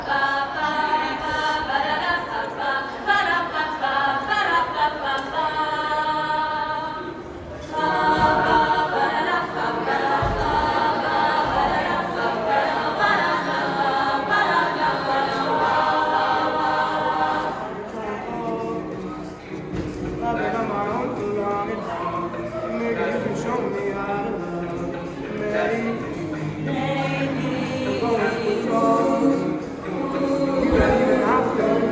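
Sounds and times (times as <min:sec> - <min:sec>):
choir singing a cappella: 0:00.0 - 0:31.9.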